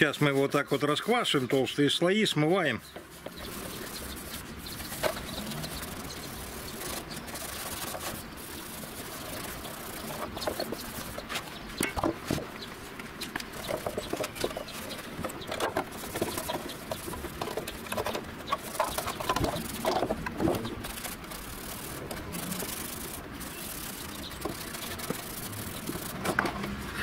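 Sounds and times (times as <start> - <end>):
rag scrubbing over steel: 0.0 - 2.0, 3.0 - 12.0, 13.6 - 27.0.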